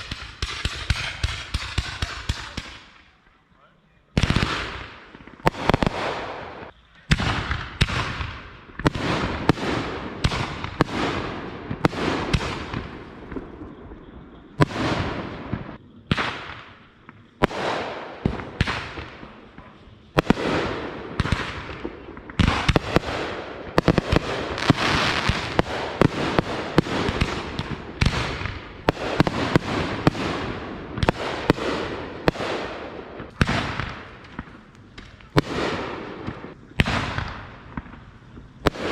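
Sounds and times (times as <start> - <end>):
fireworks bangs with crackle: 0.0 - 3.2, 4.1 - 38.9.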